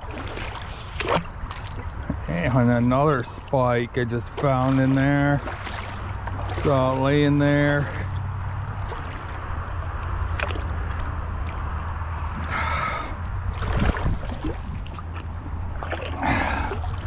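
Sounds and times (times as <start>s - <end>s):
creek water gurgling: 0.0s - 17.0s
short splashes: 0.0s - 17.0s
steady low rumble: 0.0s - 17.0s.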